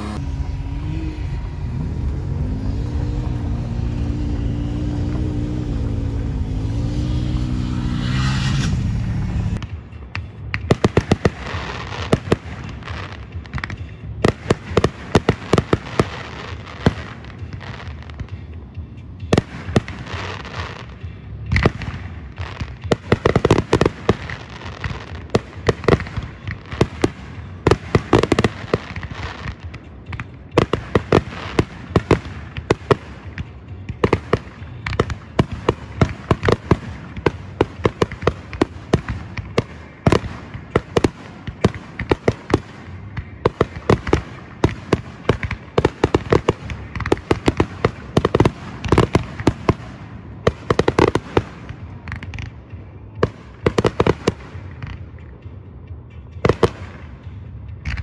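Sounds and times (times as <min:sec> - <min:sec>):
fireworks popping and cracking: 0:02.0 - 0:55.5.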